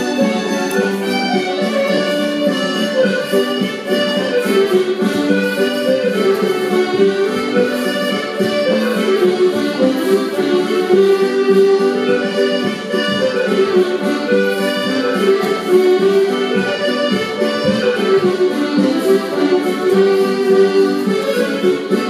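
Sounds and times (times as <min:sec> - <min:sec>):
accordion dance music: 0:00.0 - 0:22.0.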